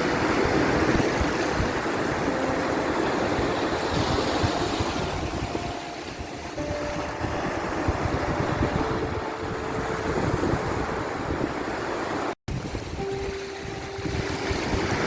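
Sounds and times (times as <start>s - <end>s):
ocean waves on shore: 0.0s - 15.0s.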